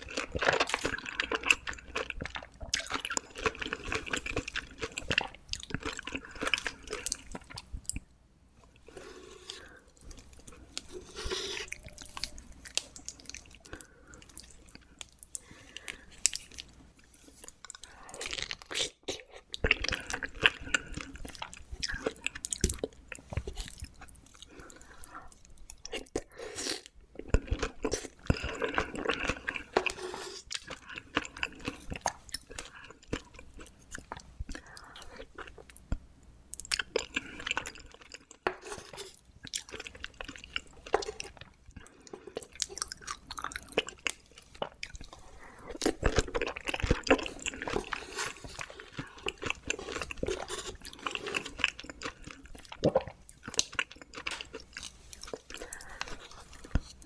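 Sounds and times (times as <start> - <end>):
person chewing and crunching: 0.0 - 8.1, 8.7 - 36.0, 36.6 - 57.0.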